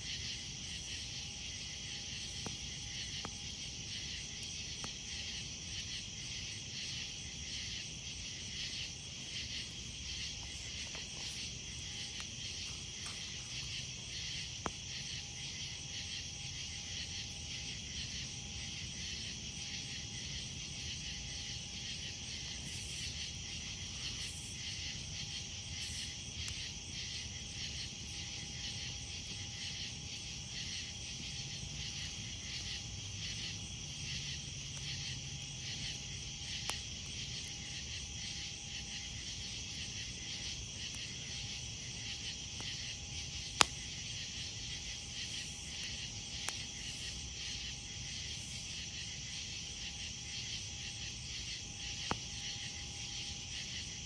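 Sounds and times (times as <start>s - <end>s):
night insects chorus: 0.0s - 54.0s
campfire popping: 0.4s - 49.8s, 50.4s - 53.6s.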